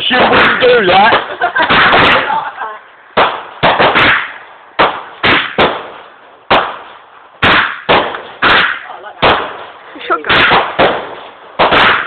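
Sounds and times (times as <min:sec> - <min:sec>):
fireworks bangs echoing: 0:00.0 - 0:12.0.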